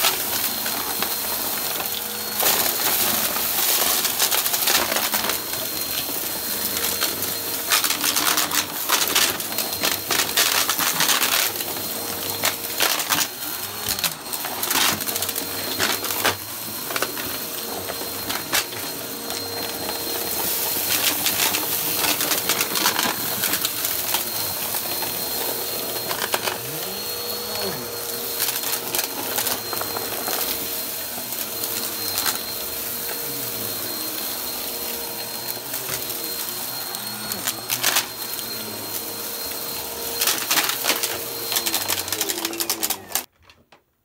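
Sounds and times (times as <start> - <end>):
vacuum cleaner motor whine: 0.0 - 43.3.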